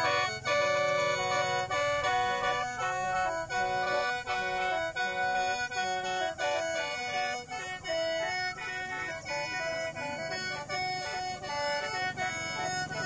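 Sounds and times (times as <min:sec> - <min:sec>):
free-reed mouth organ melody: 0:00.0 - 0:13.0.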